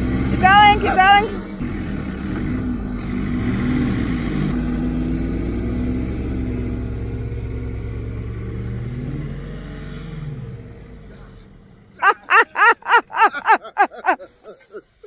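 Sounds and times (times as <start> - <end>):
truck diesel engine under load: 0.0 - 15.0.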